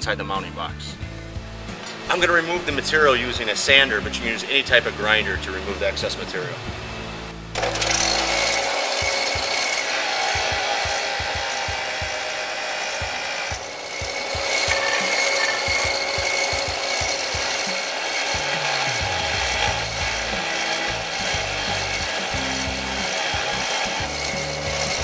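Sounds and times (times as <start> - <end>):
sander motor hum: 1.4 - 25.0
disc sander grinding steel: 1.6 - 6.9, 7.5 - 25.0.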